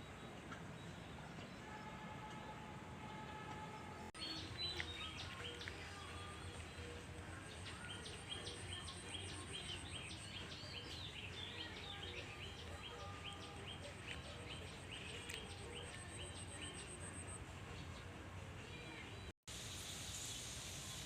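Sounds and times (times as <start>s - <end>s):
birds chirping: 0.0s - 19.3s.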